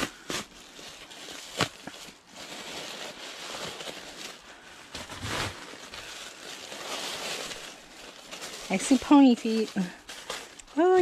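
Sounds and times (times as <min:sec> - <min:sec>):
envelope tearing: 0:00.0 - 0:11.0
paper and plastic rustling: 0:00.0 - 0:11.0.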